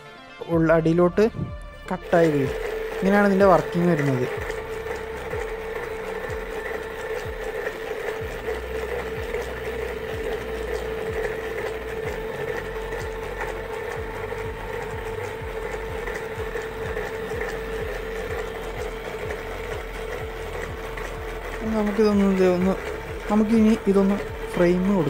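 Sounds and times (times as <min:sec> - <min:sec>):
small motor whining: 0:01.4 - 0:25.0
slicer knocking: 0:02.0 - 0:25.0.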